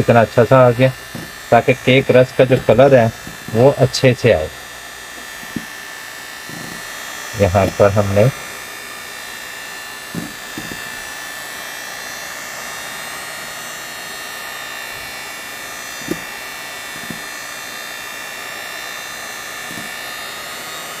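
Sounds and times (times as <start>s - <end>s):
electric hand mixer whining: 0.0s - 21.0s.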